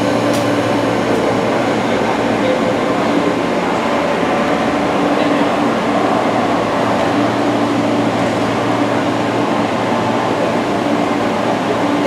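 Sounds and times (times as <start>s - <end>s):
electric train hum and rumble: 0.0s - 12.0s.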